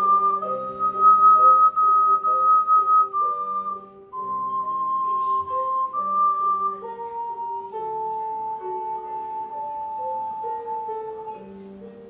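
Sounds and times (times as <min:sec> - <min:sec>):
lower accompaniment: 0:00.0 - 0:12.0
ocarina playing slow melody: 0:00.0 - 0:12.0.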